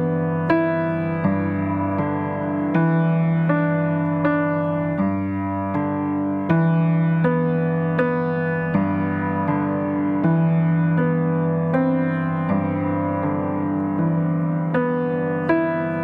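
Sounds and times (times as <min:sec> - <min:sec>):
slow gentle electric piano chords: 0:00.0 - 0:16.0.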